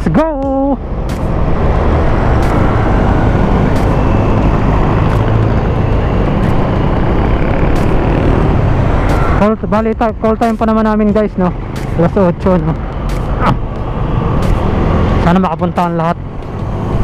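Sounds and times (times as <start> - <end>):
motorcycle engine drone: 0.0 - 17.0
wind rushing over microphone: 0.0 - 17.0.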